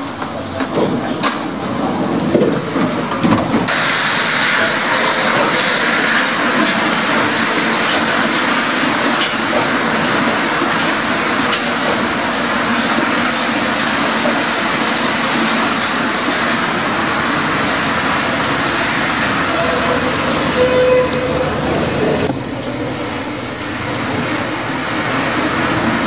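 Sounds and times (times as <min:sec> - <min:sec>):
train rushing past: 0:00.0 - 0:26.0.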